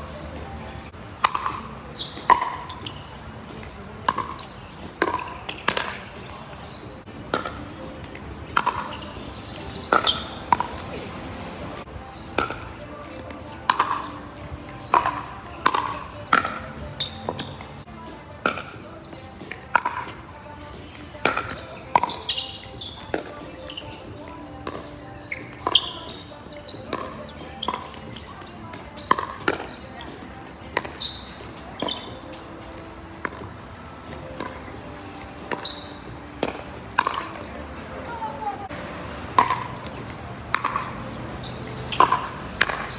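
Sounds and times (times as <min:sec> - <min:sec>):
paddles hitting plastic ball: 0:00.3 - 0:11.6, 0:12.4 - 0:17.8, 0:18.4 - 0:37.7, 0:39.3 - 0:42.9.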